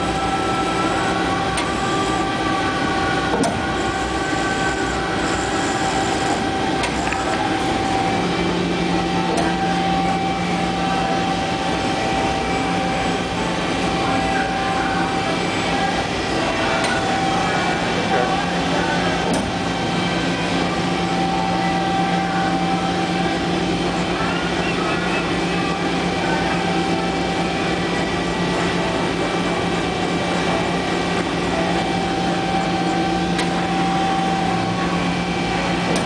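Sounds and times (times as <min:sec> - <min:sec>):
machine hum: 0:00.0 - 0:36.0.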